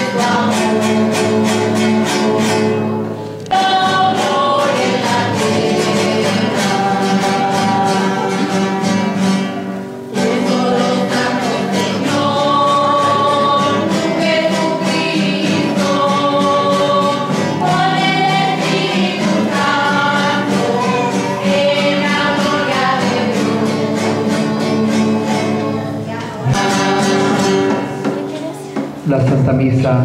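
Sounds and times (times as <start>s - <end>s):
choir and congregation singing hymn: 0.0s - 28.2s
strummed acoustic guitar: 0.0s - 30.0s.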